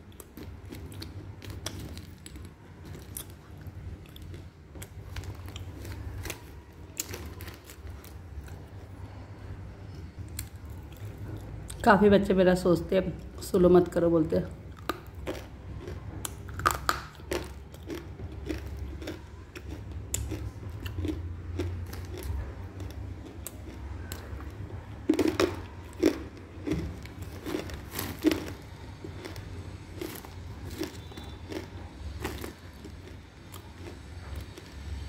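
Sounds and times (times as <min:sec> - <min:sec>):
crunching and chewing: 0:00.0 - 0:09.3, 0:09.9 - 0:11.9, 0:14.6 - 0:35.0.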